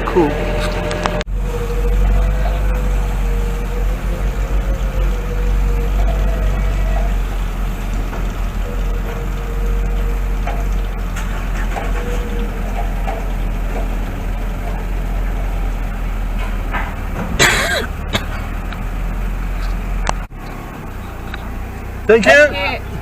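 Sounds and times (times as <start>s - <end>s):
ferry engine rumble: 0.0s - 23.0s.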